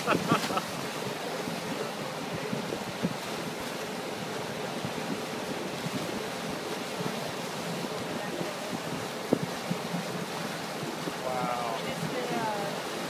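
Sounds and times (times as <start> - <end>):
churning wake water: 0.0 - 13.0
wind buffeting microphone: 0.0 - 13.0.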